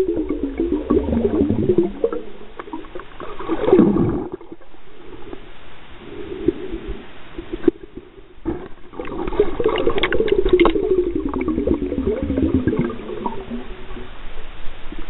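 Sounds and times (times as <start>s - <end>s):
muffled water gurgling underwater: 0.0s - 15.0s.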